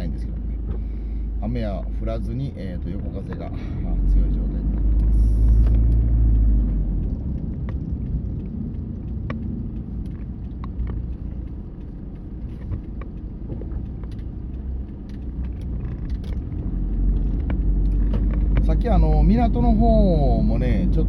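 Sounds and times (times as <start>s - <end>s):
engine and tyre rumble: 0.0s - 21.0s
wind buffeting car: 0.0s - 21.0s
light ticks and taps: 2.2s - 20.8s.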